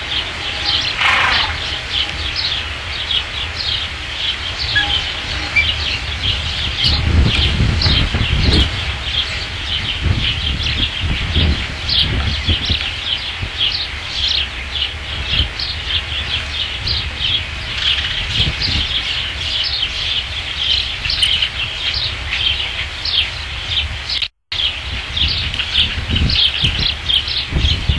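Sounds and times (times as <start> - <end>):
ospreys chirping: 0.0 - 27.8
wind rumble on microphone: 0.0 - 27.9.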